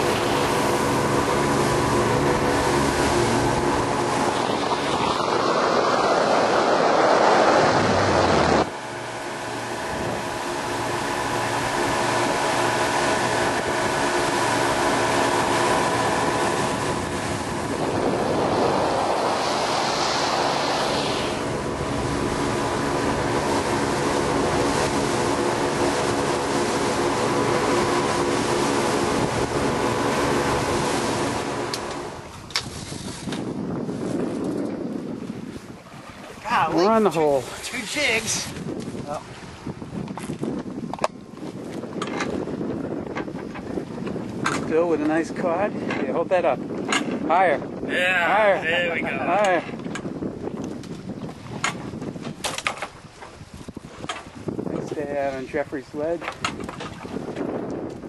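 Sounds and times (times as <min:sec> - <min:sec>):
faint boat engine hum: 0:00.0 - 0:58.0
wind and water rushing: 0:00.0 - 0:58.0.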